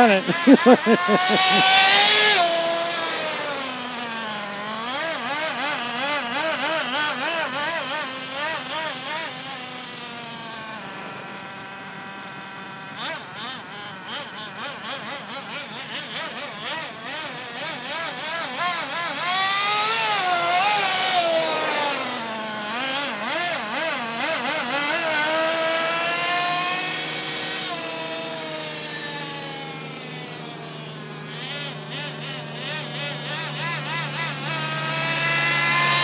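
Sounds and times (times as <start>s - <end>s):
small engine revving: 0.0s - 36.0s.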